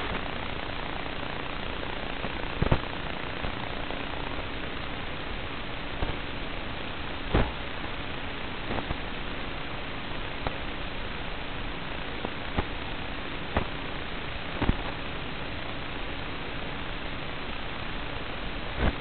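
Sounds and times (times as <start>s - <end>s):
static hiss: 0.0s - 19.0s.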